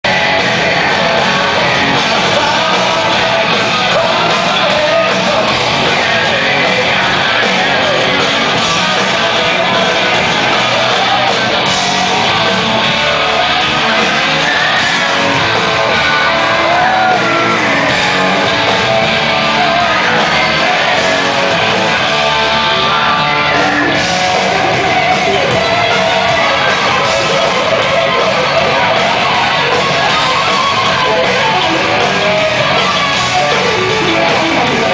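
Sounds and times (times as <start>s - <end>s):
hard rock band playing live: 0.0s - 34.9s
shouted sung lead vocal: 0.1s - 34.9s.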